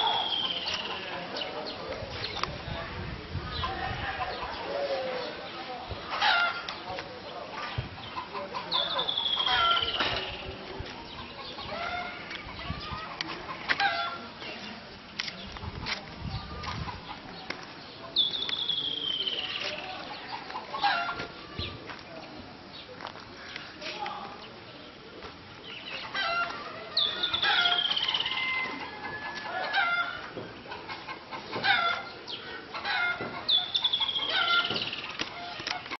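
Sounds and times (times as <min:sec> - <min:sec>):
birds calling: 0:00.0 - 0:02.5, 0:03.5 - 0:36.0.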